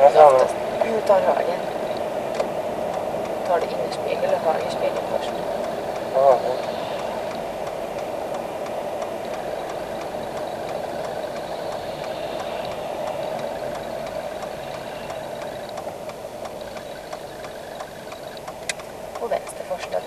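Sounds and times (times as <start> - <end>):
car engine and tyre noise: 0.0 - 20.0
turn signal ticking: 0.0 - 20.0.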